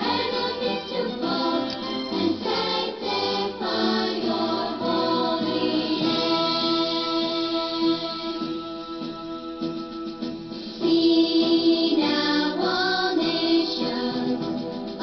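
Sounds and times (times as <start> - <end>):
choir singing: 0.0 - 9.1, 10.8 - 15.0.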